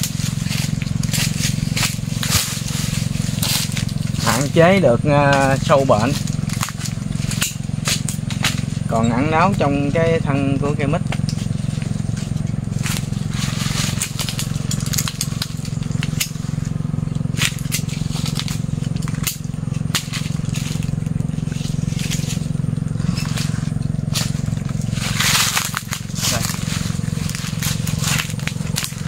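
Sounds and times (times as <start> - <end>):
steady low hum: 0.0 - 29.0
twigs and leaves crackling: 0.0 - 29.0.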